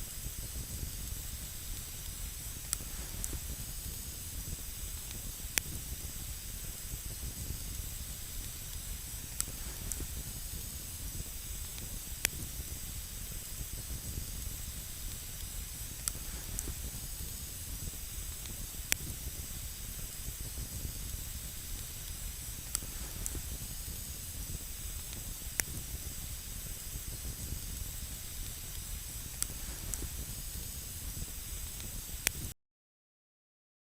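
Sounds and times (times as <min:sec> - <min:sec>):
burning wood crackles: 0:00.0 - 0:32.5
campfire hissing: 0:00.0 - 0:32.6.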